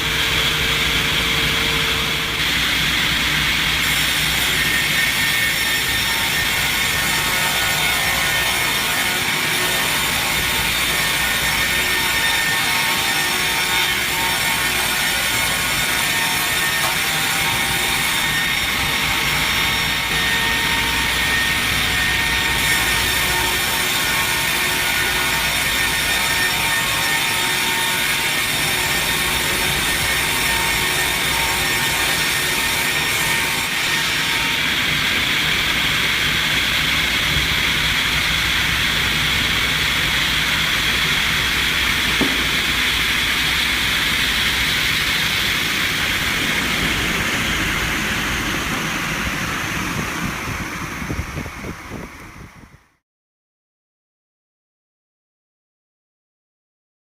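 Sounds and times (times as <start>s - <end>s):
loud machine noise: 0.0s - 52.8s.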